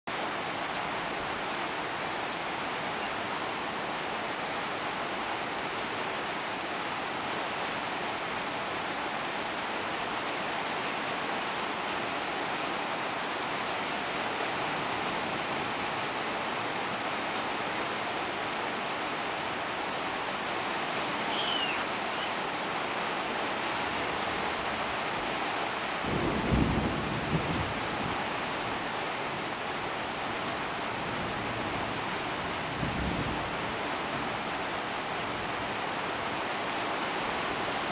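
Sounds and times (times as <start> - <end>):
heavy rain on leaves: 0.1 - 37.9.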